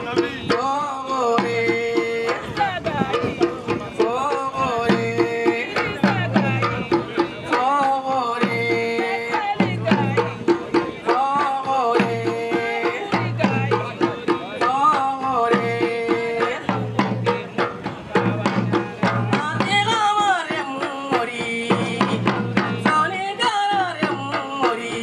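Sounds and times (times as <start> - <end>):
drum strokes: 0.0 - 25.0
woman singing: 0.0 - 25.0.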